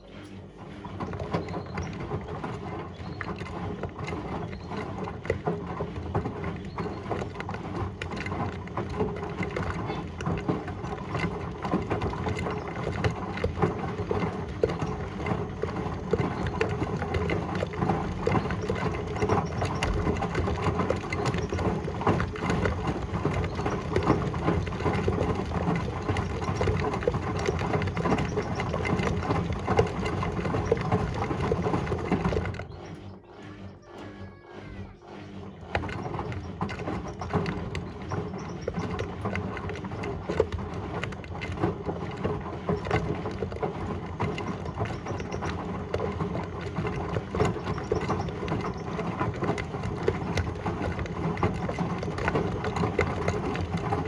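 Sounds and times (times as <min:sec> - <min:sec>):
washing machine rattling and clattering: 0:00.0 - 0:54.0.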